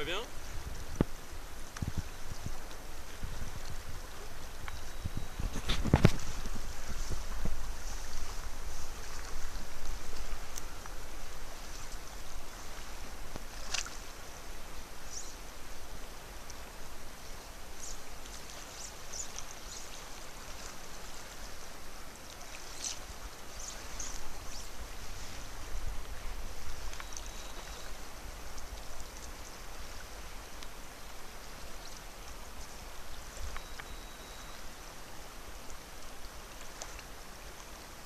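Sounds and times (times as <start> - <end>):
river flowing over stones: 0.0 - 38.0.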